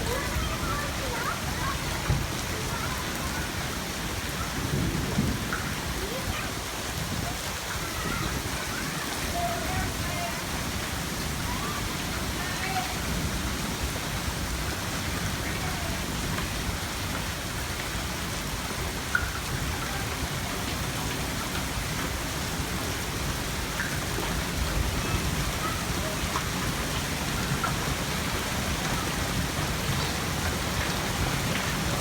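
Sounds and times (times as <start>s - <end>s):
rain and hail pelting down: 0.0s - 32.0s.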